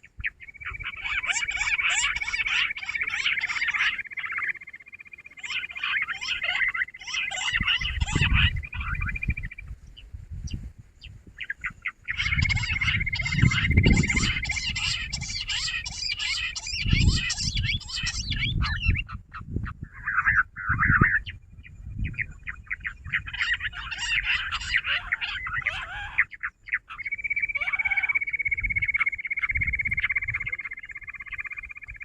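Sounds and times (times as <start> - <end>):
quail chirping chorus: 0.0 - 32.0.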